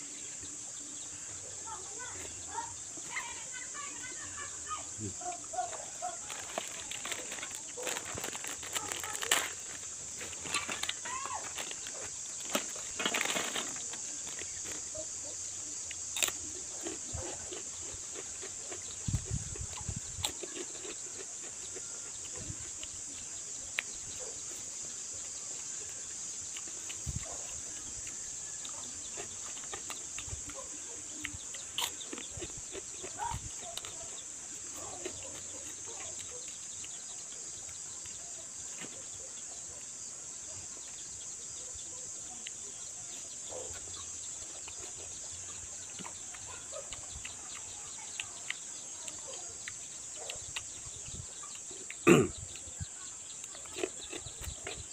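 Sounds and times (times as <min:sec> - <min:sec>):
chewing and crunching chips: 0:05.0 - 0:39.8, 0:42.1 - 0:54.9.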